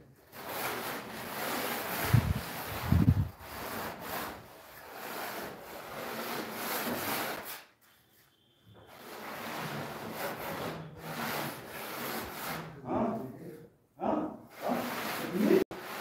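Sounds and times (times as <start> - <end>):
hand float scraping cement: 0.1 - 7.8, 8.8 - 13.4, 14.5 - 16.0.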